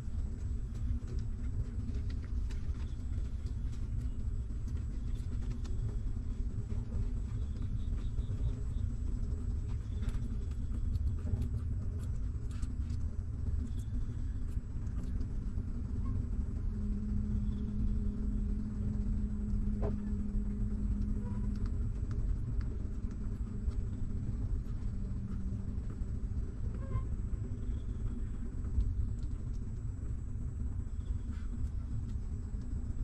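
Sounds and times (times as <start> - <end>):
low hum: 0.0 - 33.0
low rumble: 0.0 - 33.0.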